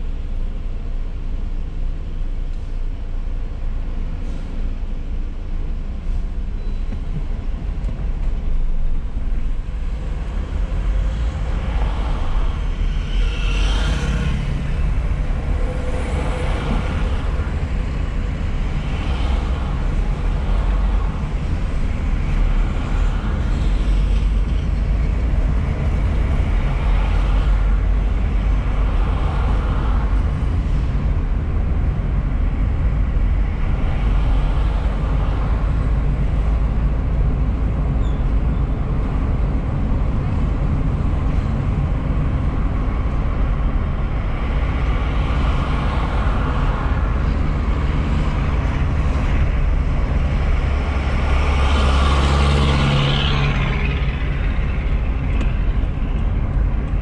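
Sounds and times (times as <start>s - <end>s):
car engine and tyres rumbling: 0.0s - 57.0s
traffic noise: 0.0s - 57.0s.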